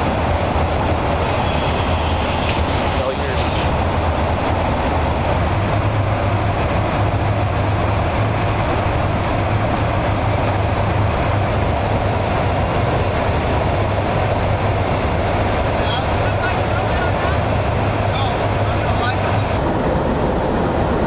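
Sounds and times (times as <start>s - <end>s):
engine and airflow rushing: 0.0s - 21.0s
low cabin hum: 0.0s - 21.0s.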